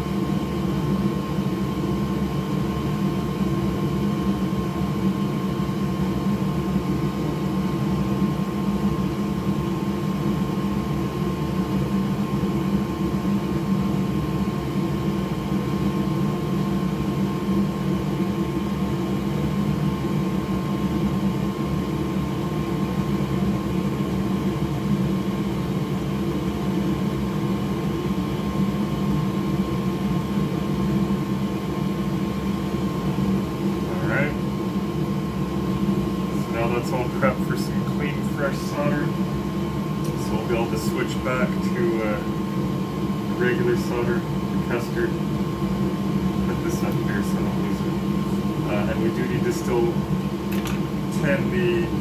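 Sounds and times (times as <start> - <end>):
small fan whirring: 0.0 - 52.0.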